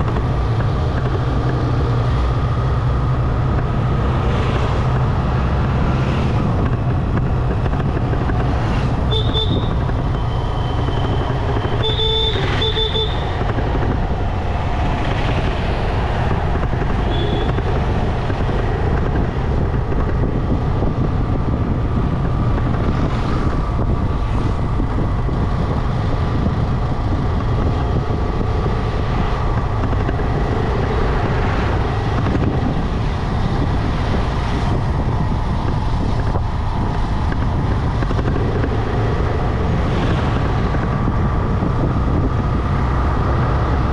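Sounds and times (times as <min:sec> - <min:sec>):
motorbike engine and tyre drone: 0:00.0 - 0:43.9
wind rumble on microphone: 0:00.0 - 0:43.9.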